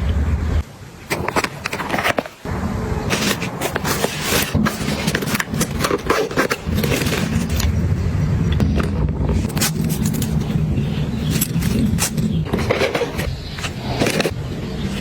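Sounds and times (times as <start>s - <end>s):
steady low rumble: 0.0s - 0.8s, 2.5s - 15.0s
packaging crackling and scraping: 1.1s - 7.8s, 8.6s - 15.0s.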